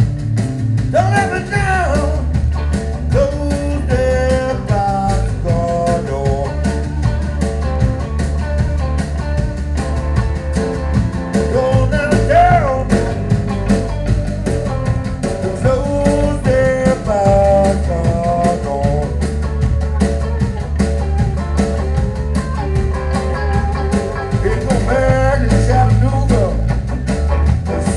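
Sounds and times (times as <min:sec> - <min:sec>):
bass guitar: 0:00.0 - 0:27.9
drum kit beat: 0:00.0 - 0:27.9
electric guitar: 0:00.0 - 0:27.9.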